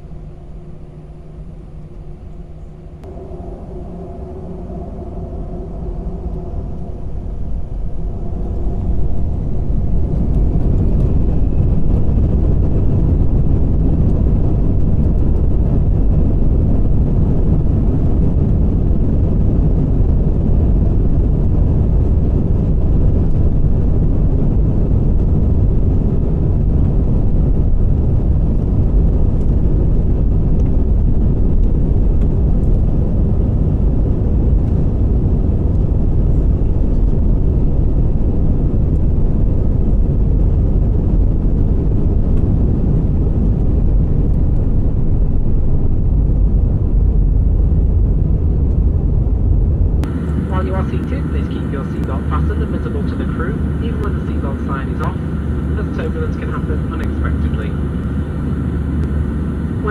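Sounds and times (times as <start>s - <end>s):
jet engines and airflow rushing: 0.0s - 59.9s.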